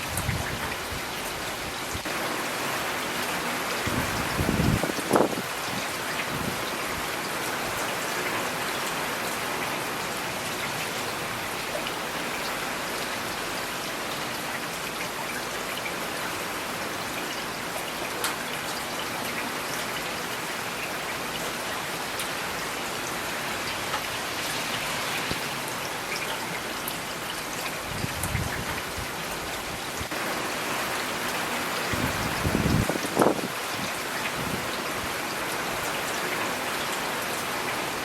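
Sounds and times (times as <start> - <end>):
rain on hard surfaces: 0.0 - 38.0.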